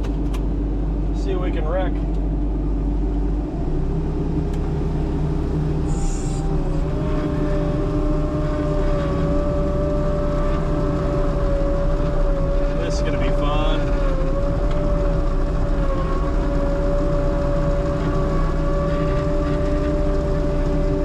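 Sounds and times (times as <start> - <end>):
skid loader engine running: 0.0 - 21.0
steady whine: 0.0 - 21.0.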